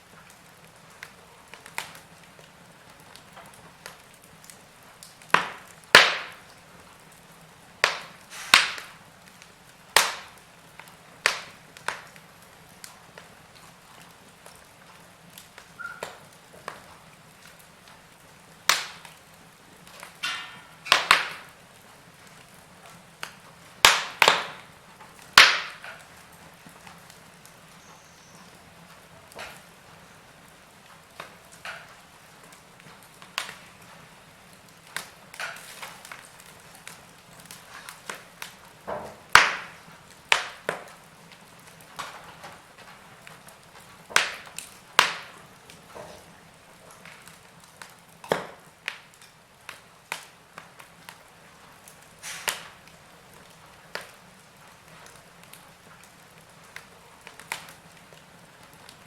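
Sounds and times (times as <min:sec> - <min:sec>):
faint steady hiss: 0:00.0 - 0:59.0
logs crackling in fireplace: 0:00.0 - 0:59.0.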